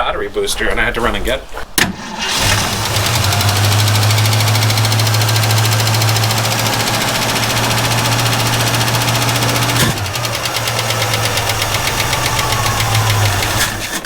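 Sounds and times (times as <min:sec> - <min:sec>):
starter motor cranking engine: 0:01.8 - 0:14.0.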